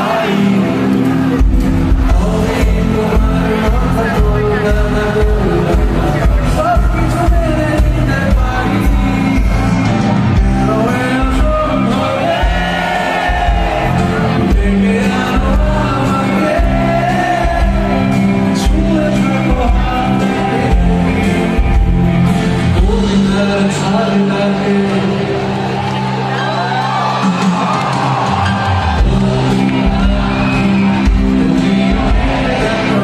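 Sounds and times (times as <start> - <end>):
crowd shouting and cheering: 0.0 - 33.0
live pop-rock band with singer: 0.0 - 33.0.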